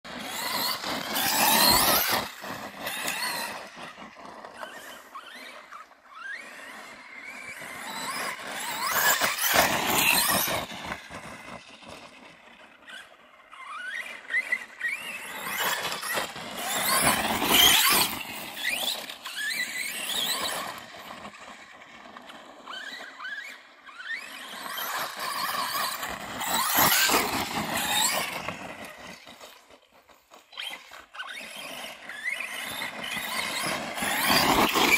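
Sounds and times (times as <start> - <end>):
electric motor whining: 0.1 - 34.9.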